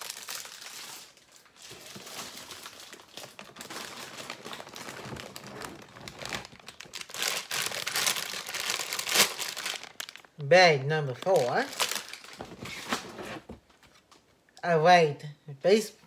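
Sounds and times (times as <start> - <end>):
plastic bags crinkling: 0.0 - 14.2.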